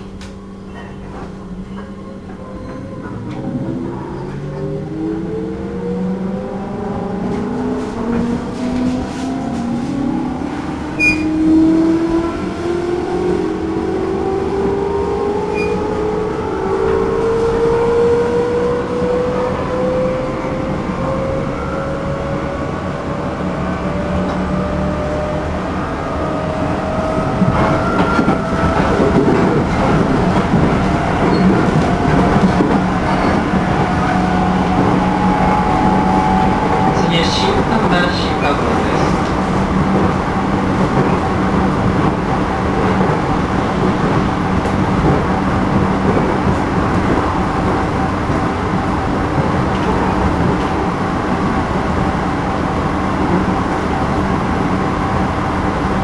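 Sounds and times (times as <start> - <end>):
train rolling noise: 0.0 - 56.0.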